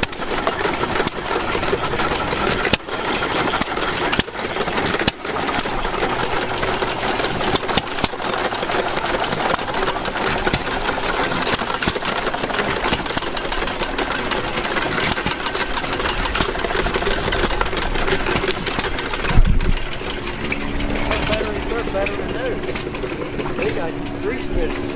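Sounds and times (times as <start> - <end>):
old gas engine clattering: 0.0 - 24.9.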